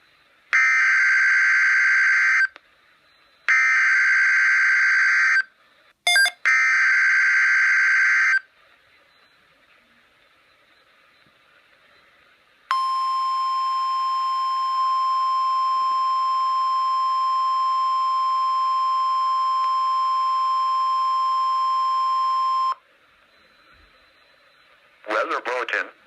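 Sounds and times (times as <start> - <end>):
faint radio hiss: 0.0 - 6.2, 7.2 - 26.0.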